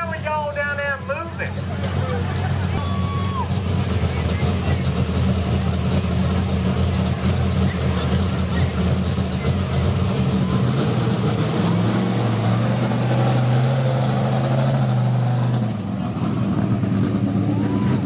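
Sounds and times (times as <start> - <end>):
truck engine under load: 0.0 - 18.0.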